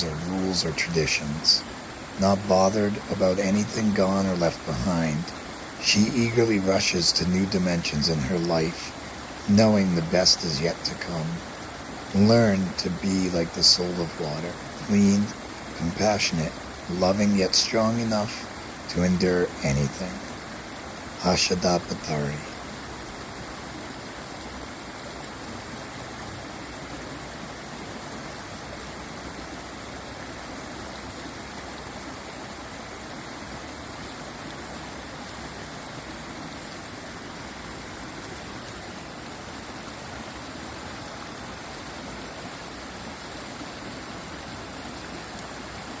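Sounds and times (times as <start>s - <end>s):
running water rushing: 0.0s - 46.0s.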